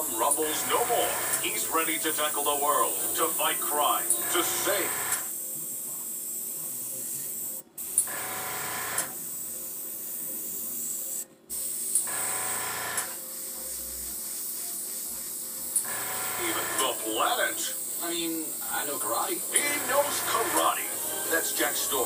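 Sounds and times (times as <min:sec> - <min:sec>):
airbrush hissing: 0:00.0 - 0:22.0.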